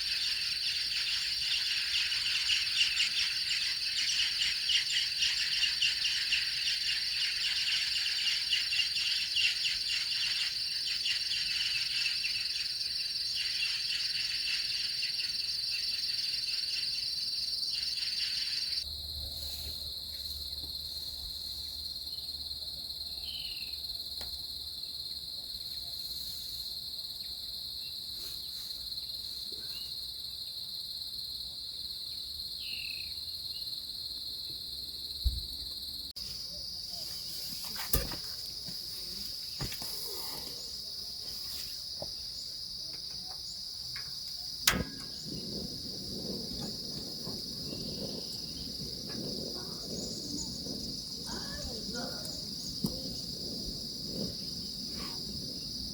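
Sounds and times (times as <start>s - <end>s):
short insect chirps: 0.0s - 31.2s, 32.0s - 55.9s
insects trilling: 0.0s - 55.9s
pulsing insect calls: 0.0s - 55.9s.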